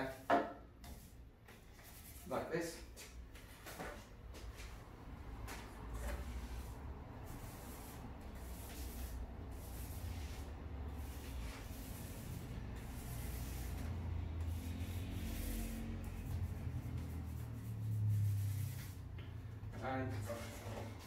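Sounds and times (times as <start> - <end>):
paint roller swishing: 0.1 - 2.3, 5.4 - 19.5, 20.1 - 21.0.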